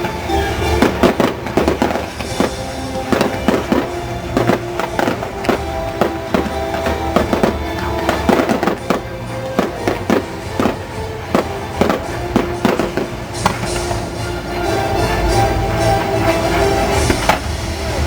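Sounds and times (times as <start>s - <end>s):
firework shells bursting: 0.0s - 18.0s
loud music: 0.0s - 18.0s.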